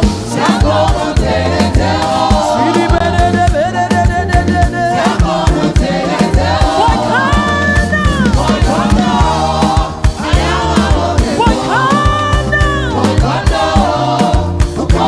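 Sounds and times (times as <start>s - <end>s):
bass: 0.0s - 15.0s
drum beat: 0.0s - 15.0s
gospel singing: 0.0s - 15.0s.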